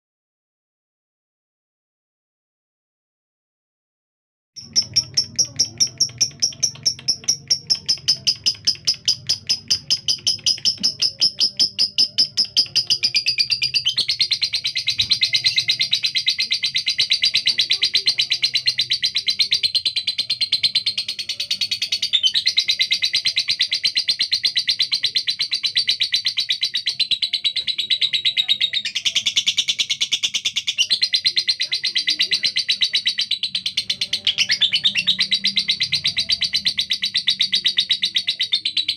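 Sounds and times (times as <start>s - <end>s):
lovebird chirping and chattering: 4.6s - 38.9s.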